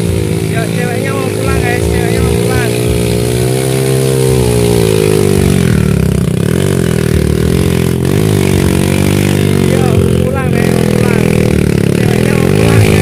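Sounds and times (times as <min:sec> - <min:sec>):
motorcycle engine revving hard: 0:00.0 - 0:13.0.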